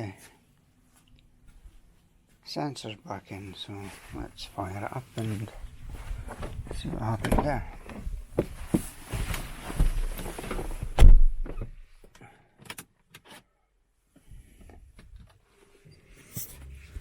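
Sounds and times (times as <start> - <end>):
rustling and shuffling: 0.1 - 12.1, 14.2 - 17.0.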